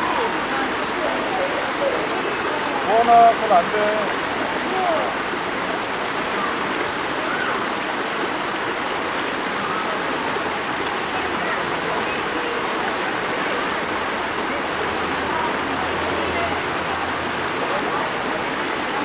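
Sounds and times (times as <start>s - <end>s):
stream water rushing over rocks: 0.0s - 19.0s.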